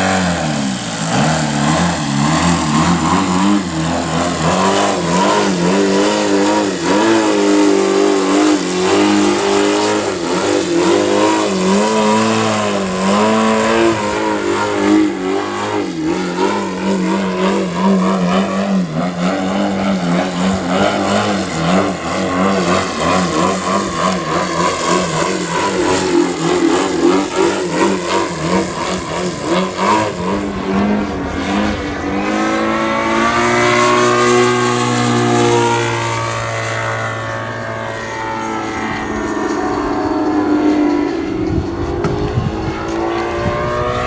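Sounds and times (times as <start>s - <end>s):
model plane engine running: 0.0s - 44.0s.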